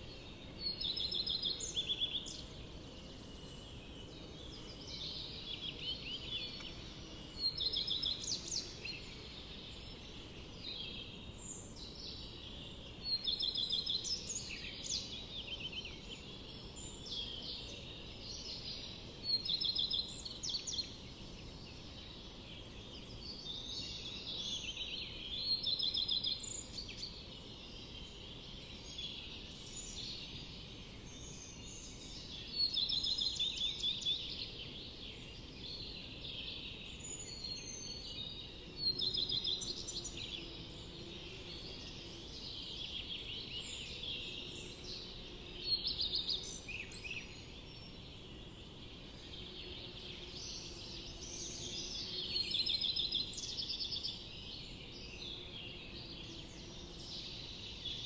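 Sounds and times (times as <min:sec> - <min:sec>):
bird song of rapid repeated notes: 0:00.0 - 0:58.0
faint steady hiss: 0:00.0 - 0:58.0
forest birds singing and calling: 0:00.0 - 0:58.0.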